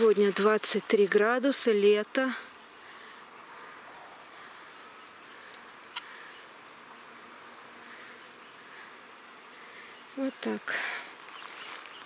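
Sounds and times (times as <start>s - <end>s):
insects buzzing and chirring: 0.0s - 12.0s.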